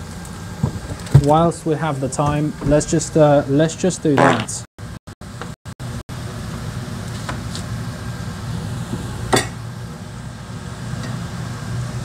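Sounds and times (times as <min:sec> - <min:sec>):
kitchen extractor fan hum: 0:00.0 - 0:04.2, 0:04.9 - 0:12.0.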